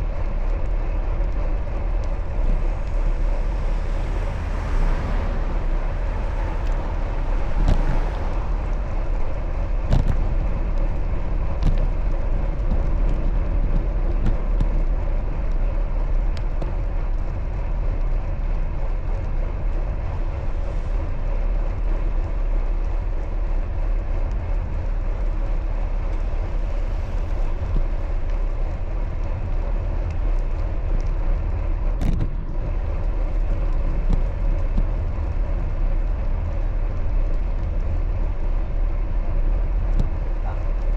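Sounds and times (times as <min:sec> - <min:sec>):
bicycle road noise: 0:00.0 - 0:40.9
wind over microphone: 0:00.0 - 0:40.9.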